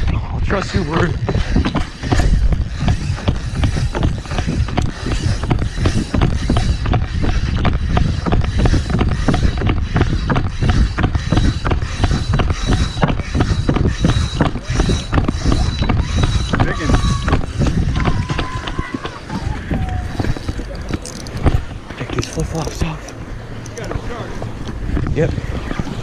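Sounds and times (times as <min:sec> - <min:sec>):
camera handling rubbing and rumble: 0:00.0 - 0:26.0
knocks and thuds: 0:00.9 - 0:22.2.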